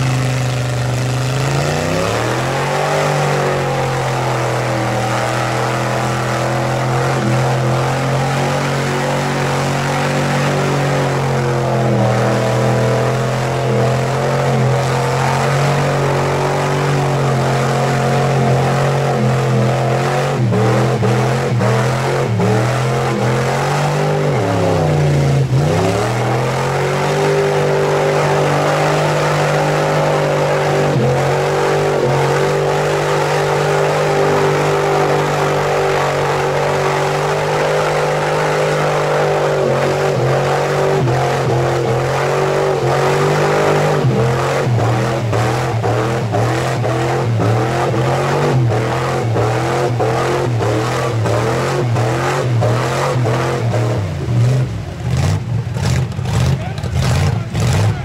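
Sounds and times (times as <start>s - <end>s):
tires spinning in mud: 0.0s - 58.0s
truck engine revving: 0.0s - 58.0s.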